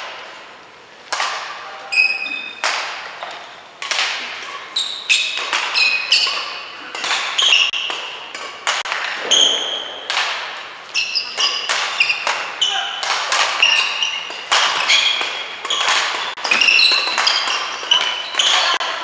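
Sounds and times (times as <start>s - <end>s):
rackets hitting shuttlecock: 1.0s - 19.0s
shoes squeaking on court floor: 1.8s - 19.0s.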